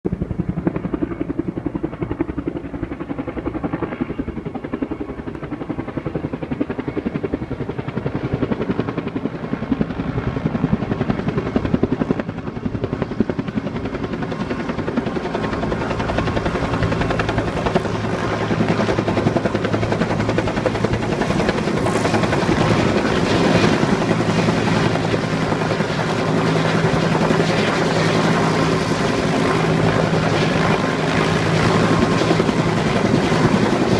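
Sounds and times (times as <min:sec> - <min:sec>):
helicopter rotor beating: 0:00.1 - 0:33.9
helicopter turbine whine: 0:00.1 - 0:33.9.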